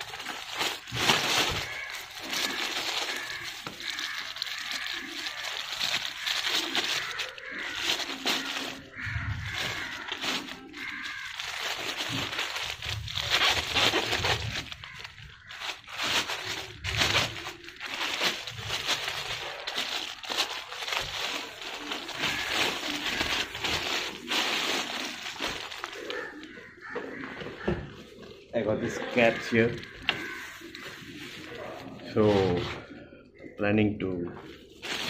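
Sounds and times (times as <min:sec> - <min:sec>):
plastic bag crinkling: 0:00.0 - 0:32.7, 0:34.4 - 0:35.0.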